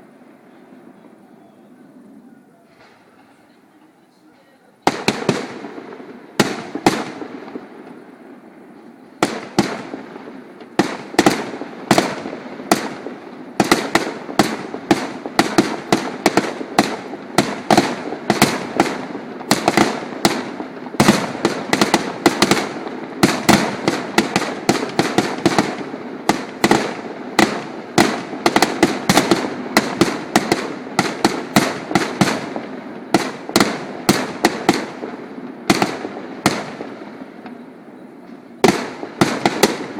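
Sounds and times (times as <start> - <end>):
fireworks exploding: 0.0 - 39.9.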